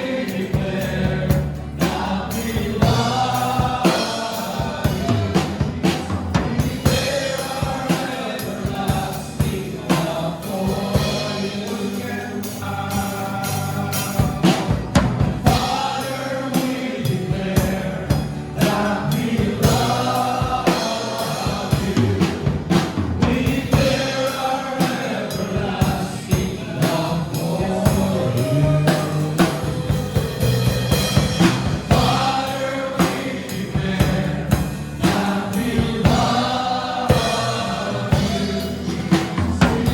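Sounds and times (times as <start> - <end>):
band with drum kit: 0.0 - 39.9
group singing gospel song: 0.0 - 39.9.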